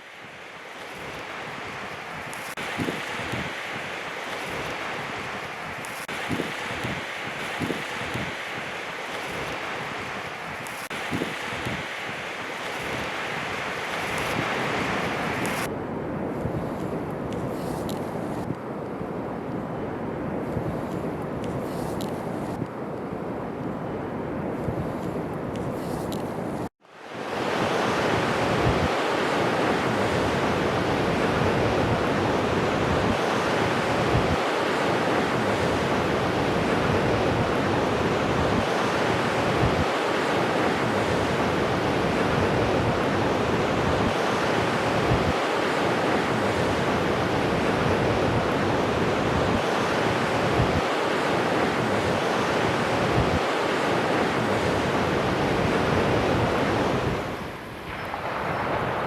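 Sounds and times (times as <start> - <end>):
sea waves breaking on shore: 0.0 - 59.0
wind rumbling on microphone: 0.0 - 59.0.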